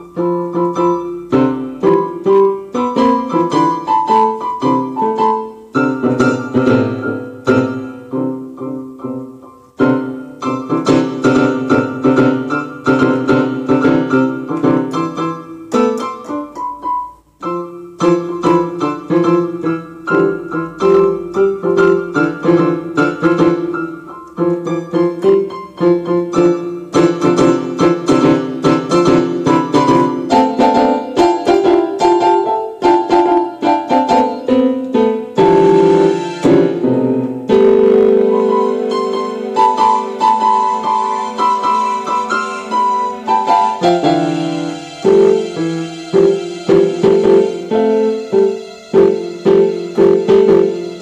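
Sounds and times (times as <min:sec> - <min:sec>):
fast piano music: 0:00.0 - 0:51.0.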